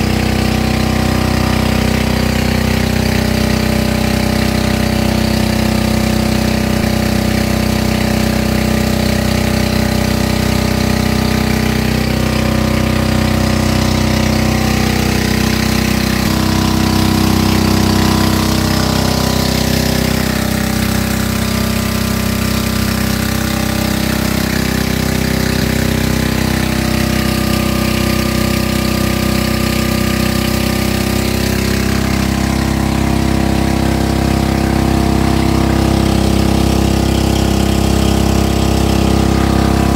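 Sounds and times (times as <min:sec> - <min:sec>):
small boat engine running: 0:00.0 - 0:39.9.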